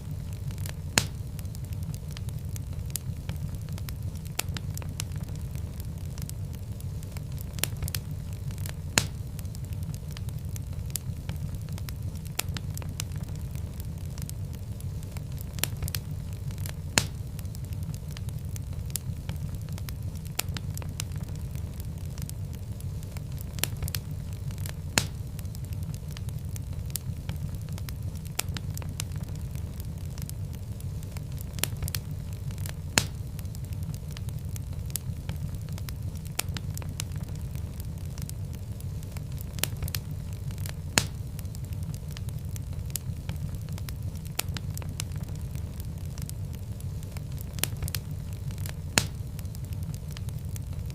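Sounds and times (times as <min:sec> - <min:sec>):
fire flames rumbling: 0:00.0 - 0:50.9
wood fire crackles and pops: 0:00.0 - 0:50.9.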